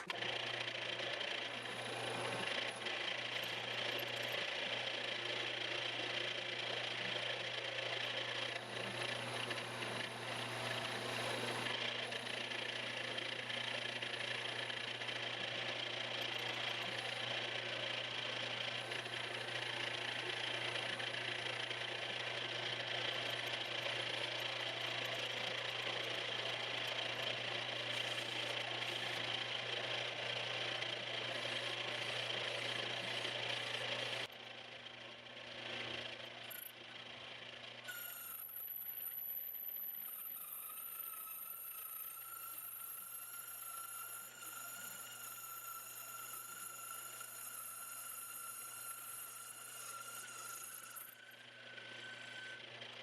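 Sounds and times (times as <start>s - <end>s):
machine tool motor hum: 0.0s - 53.0s.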